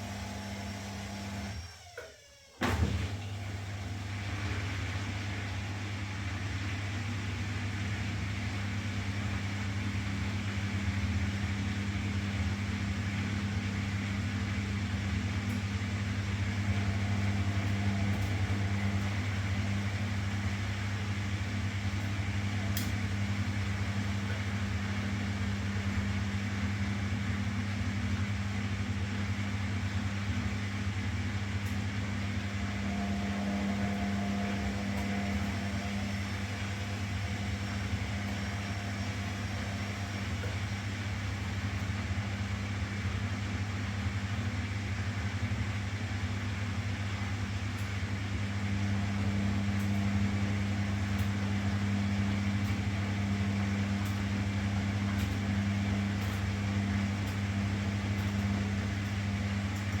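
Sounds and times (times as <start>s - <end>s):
washing machine humming: 0.0s - 60.0s.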